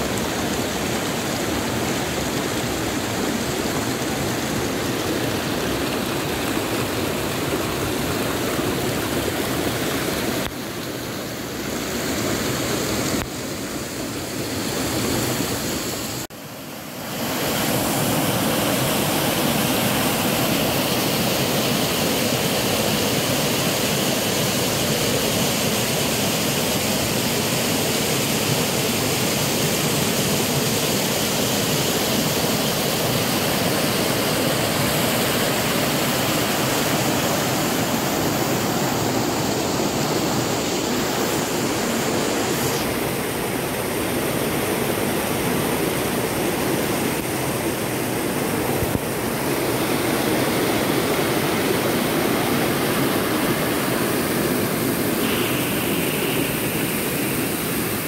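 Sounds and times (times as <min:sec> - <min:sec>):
waterfall pouring over rocks: 0:00.0 - 0:58.0.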